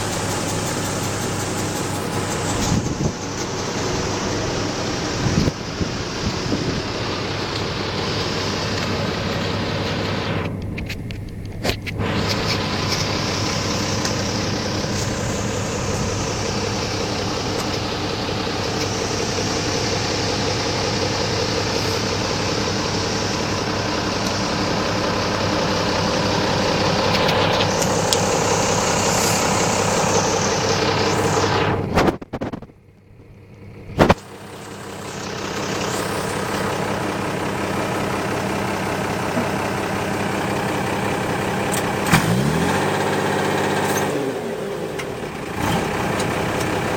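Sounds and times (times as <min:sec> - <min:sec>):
diesel tractor engine running: 0:00.0 - 0:46.9.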